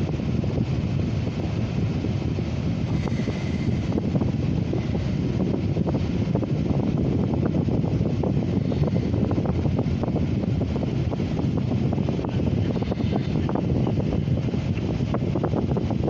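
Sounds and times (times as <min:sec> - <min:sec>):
freight cars rumbling on rails: 0:00.0 - 0:16.0.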